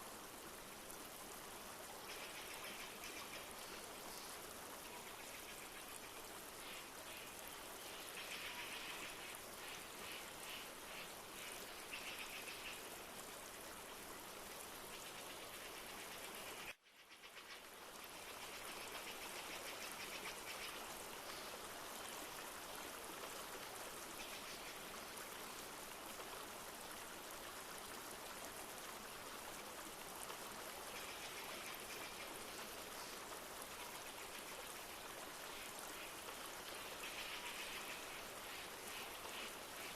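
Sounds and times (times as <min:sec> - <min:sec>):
light rain: 0:00.0 - 0:39.9
river flowing: 0:00.0 - 0:39.9.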